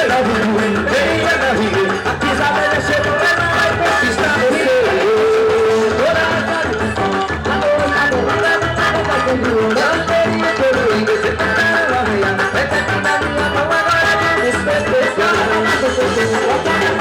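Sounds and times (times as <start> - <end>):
forro band music with dense percussion: 0.0 - 17.0.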